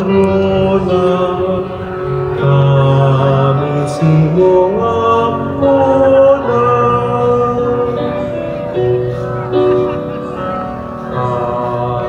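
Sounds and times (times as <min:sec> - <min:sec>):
devotional hymn with held notes: 0:00.0 - 0:12.0.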